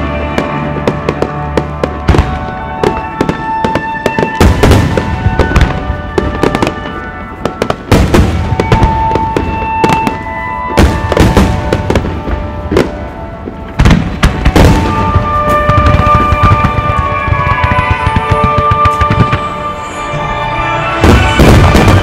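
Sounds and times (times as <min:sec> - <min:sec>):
firework shells bursting and crackling: 0:00.0 - 0:22.0
music with long held notes: 0:00.0 - 0:22.0.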